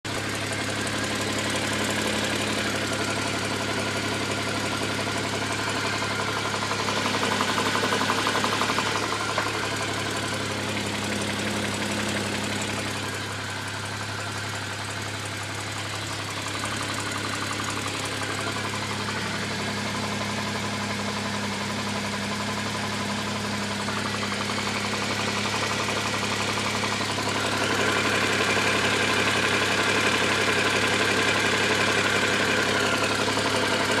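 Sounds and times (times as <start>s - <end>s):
car engine idling with knock: 0.0s - 34.0s.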